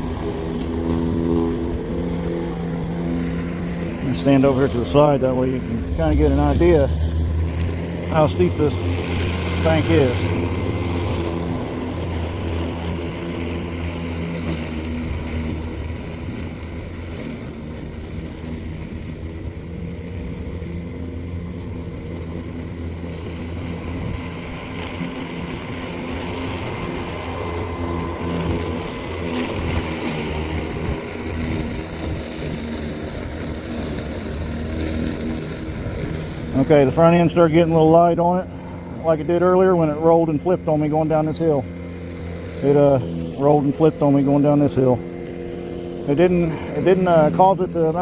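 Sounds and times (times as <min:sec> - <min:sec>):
electric mower motor hum: 0:00.0 - 0:48.0.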